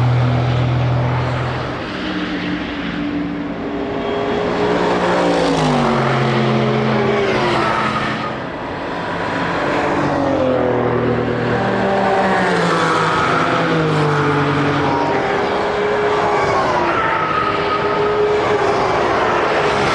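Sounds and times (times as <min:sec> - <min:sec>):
racing cars passing at speed: 0:00.0 - 0:19.9.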